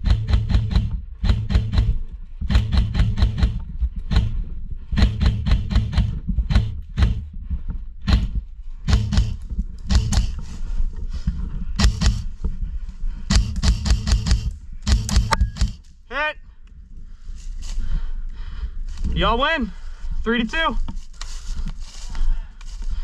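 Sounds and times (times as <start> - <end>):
deep bass: 0.0 - 20.2.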